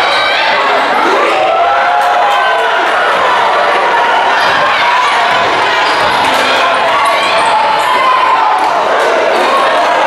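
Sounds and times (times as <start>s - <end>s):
crowd talking and shouting: 0.0s - 10.0s.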